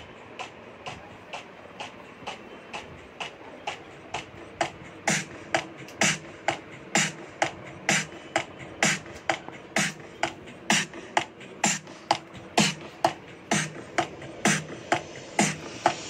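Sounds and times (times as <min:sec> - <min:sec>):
sparse drum beat: 0:00.4 - 0:16.0.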